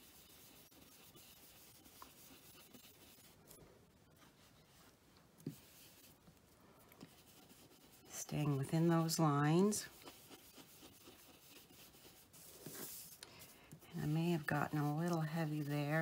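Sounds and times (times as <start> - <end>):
brush rubbing on paper: 0.0 - 16.0.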